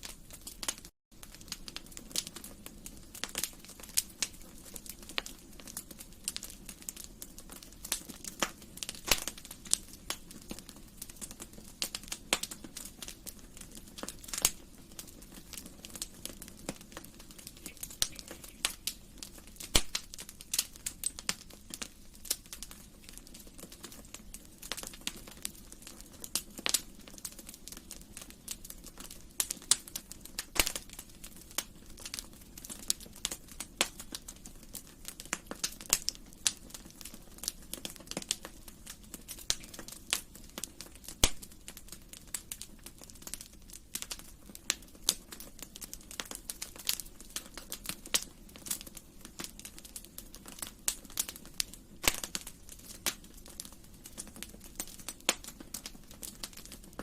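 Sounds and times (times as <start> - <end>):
low hiss of burning: 0.0 - 57.0
wood fire crackling and popping: 0.0 - 57.0.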